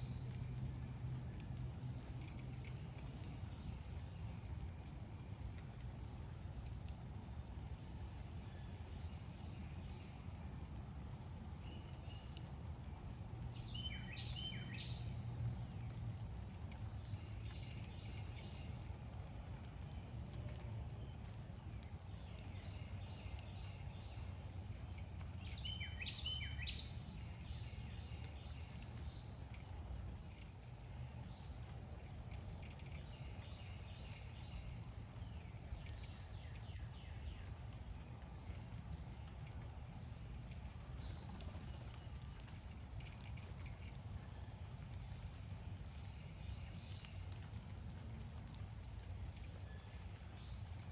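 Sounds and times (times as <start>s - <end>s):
songbird chirping: 0.0s - 12.6s, 13.4s - 50.9s
low outdoor rumble: 0.0s - 50.9s.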